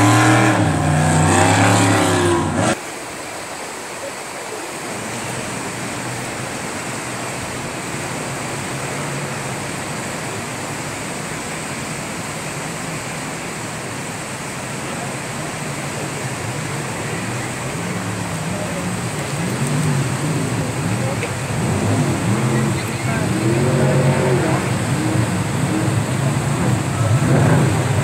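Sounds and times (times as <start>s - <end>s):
faint distant boat engine: 0.0s - 3.2s, 4.0s - 28.0s
jet boat engine running loud: 0.0s - 3.7s, 4.3s - 28.0s
river rapids rushing: 0.0s - 28.0s.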